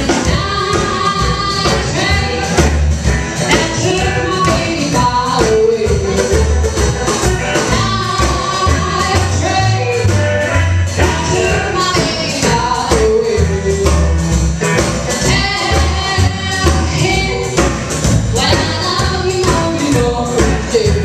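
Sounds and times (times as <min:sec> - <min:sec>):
woman singing: 0:00.0 - 0:14.2, 0:15.1 - 0:17.7, 0:18.3 - 0:21.0
drums: 0:00.0 - 0:21.0
upright bass: 0:00.0 - 0:21.0.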